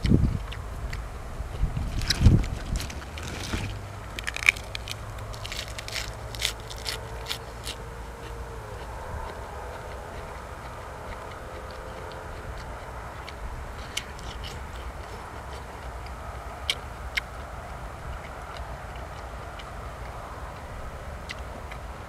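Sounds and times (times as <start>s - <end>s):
person chewing: 0.0s - 21.8s
steady low rumble: 0.0s - 22.0s.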